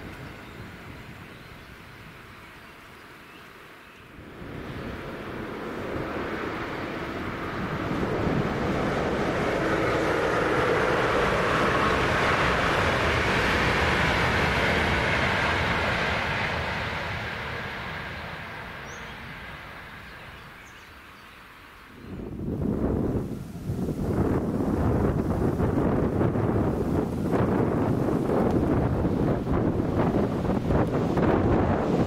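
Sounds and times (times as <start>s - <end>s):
train wheels rumbling on rails: 4.2s - 21.1s, 22.3s - 32.0s.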